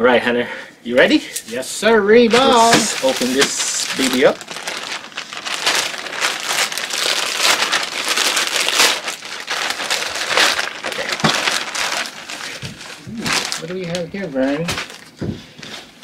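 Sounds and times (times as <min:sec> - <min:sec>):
plastic bag crinkling: 0:02.1 - 0:15.2.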